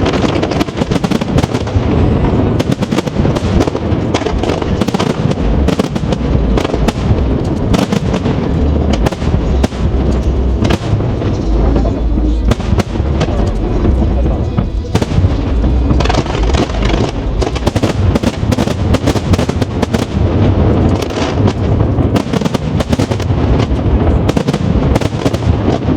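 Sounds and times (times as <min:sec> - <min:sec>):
fireworks bangs: 0:00.0 - 0:25.9
low rumble: 0:00.0 - 0:25.9.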